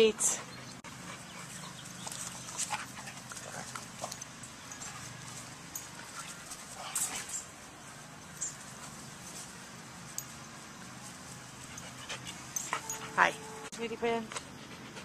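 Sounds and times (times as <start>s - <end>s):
dogs snuffling: 0.5s - 15.0s.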